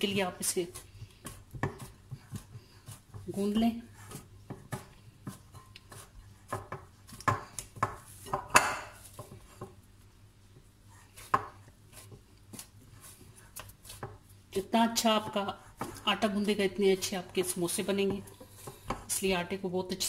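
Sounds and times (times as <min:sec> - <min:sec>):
dough kneaded in glass bowl: 0:00.0 - 0:20.0.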